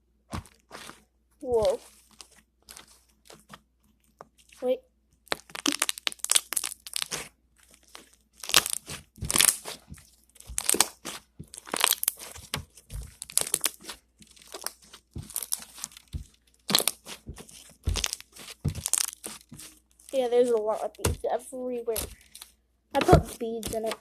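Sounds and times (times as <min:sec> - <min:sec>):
slime crackling and popping: 0:00.3 - 0:21.3.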